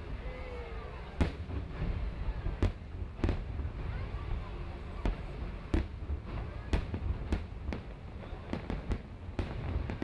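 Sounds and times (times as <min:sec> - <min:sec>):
continuous low rumble: 0:00.0 - 0:10.0.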